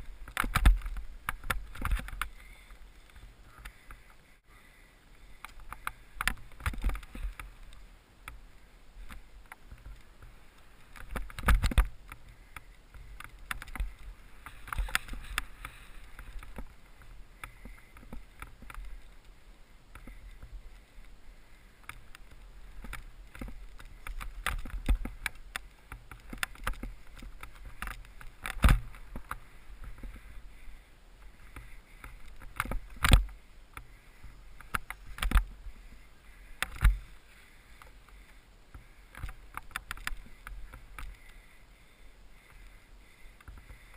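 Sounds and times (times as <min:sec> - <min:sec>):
muffled skis on snow rumble: 0:00.0 - 0:43.9.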